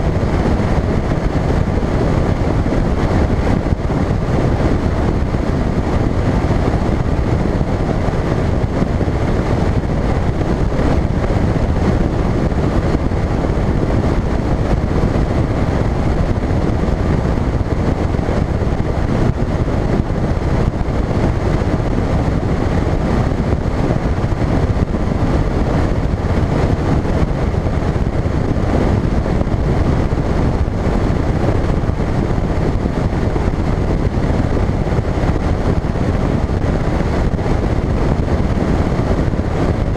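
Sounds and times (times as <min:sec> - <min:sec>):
hull on water: 0:00.0 - 0:39.9
outboard motor running: 0:00.0 - 0:39.9
wind buffeting microphone: 0:00.0 - 0:39.9.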